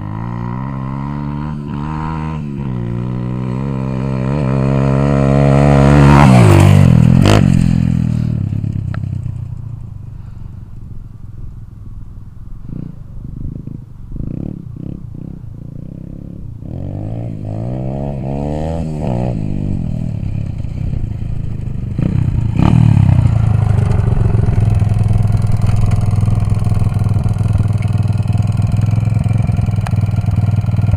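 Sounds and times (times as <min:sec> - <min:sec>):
motorbike engine revving: 0:00.0 - 0:09.6, 0:12.6 - 0:30.9.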